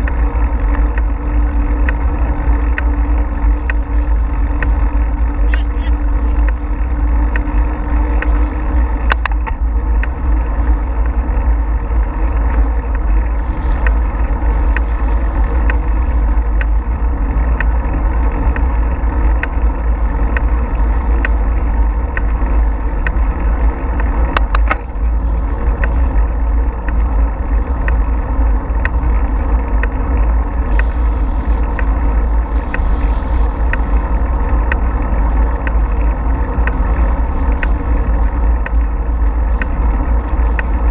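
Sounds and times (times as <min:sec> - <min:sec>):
faint ticks: 0:00.0 - 0:05.7, 0:06.4 - 0:40.9
bike rolling on pavement: 0:00.0 - 0:40.9
wind rumble on microphone: 0:00.0 - 0:40.9.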